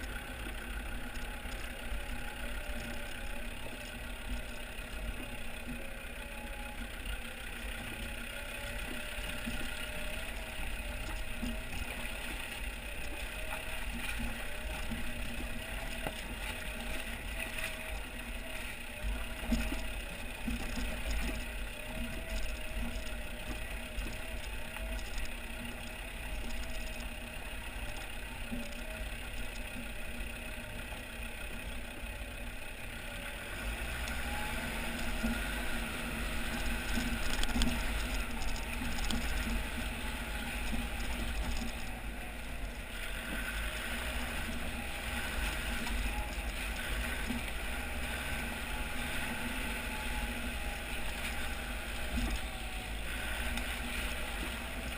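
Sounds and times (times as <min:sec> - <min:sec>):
diesel engine running at low revs: 0:00.0 - 0:54.9.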